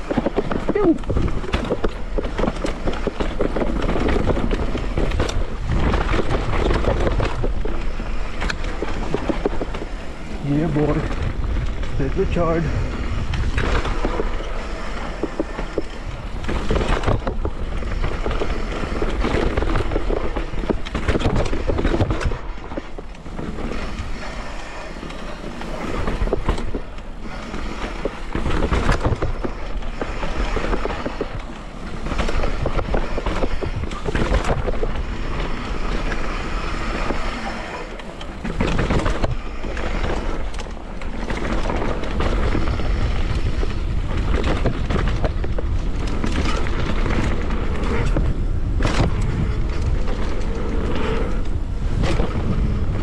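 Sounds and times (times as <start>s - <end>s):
bike rattling and knocking: 0.0s - 53.0s
tyres on dirt: 0.0s - 53.0s
wind rumbling on microphone: 0.0s - 53.0s.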